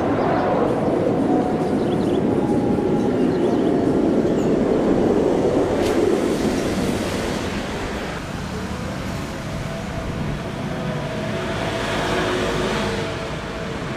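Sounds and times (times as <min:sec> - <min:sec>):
airplane rumble: 0:00.0 - 0:13.9.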